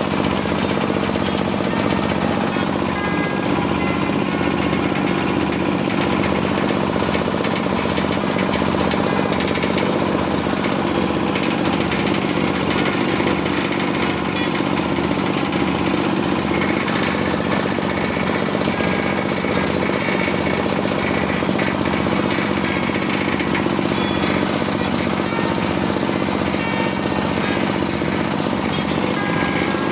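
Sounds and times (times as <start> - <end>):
chopper machine shredding fronds: 0.0 - 29.9.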